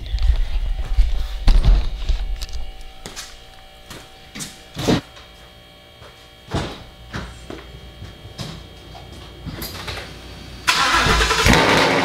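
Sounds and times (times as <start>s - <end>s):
garage door motor humming: 0.0s - 12.0s.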